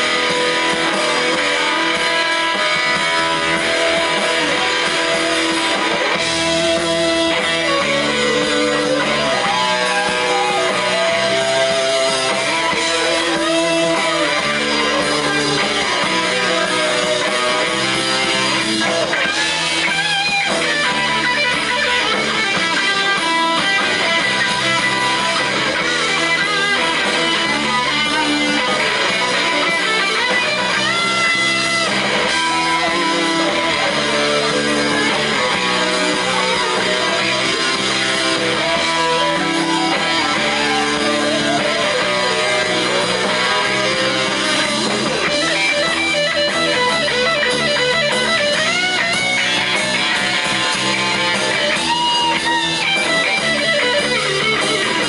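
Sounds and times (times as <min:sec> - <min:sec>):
lead guitar bending notes: 0:00.0 - 0:55.0
live rock band playing: 0:00.0 - 0:55.0.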